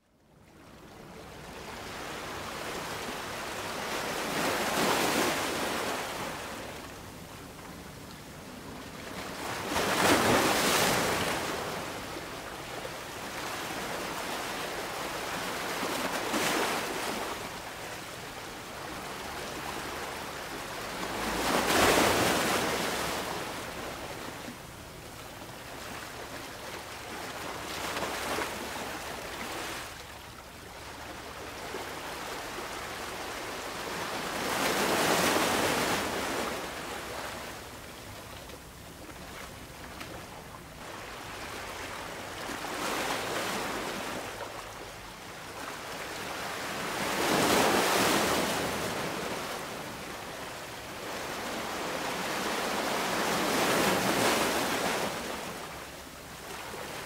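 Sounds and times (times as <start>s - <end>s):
sea waves breaking on shore: 0.5s - 57.0s.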